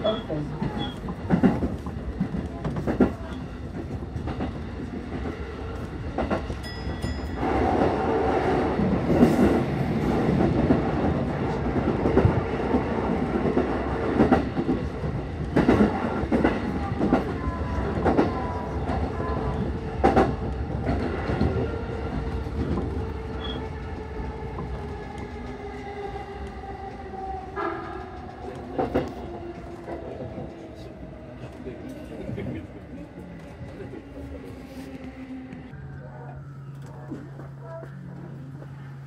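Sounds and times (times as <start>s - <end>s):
train wheels rumbling on rails: 0.0s - 35.8s.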